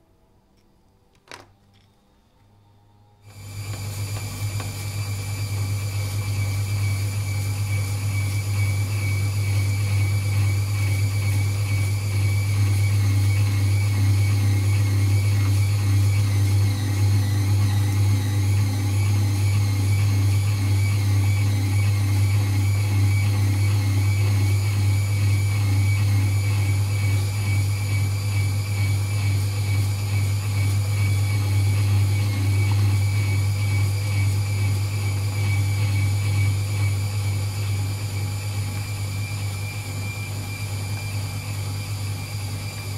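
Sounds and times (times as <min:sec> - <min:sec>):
meat grinder humming and whining: 0:03.2 - 0:42.9.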